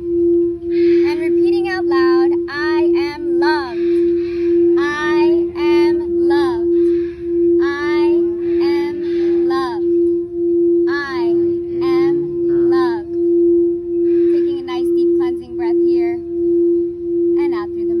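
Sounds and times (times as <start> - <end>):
singing bowl ringing: 0.0 - 18.0.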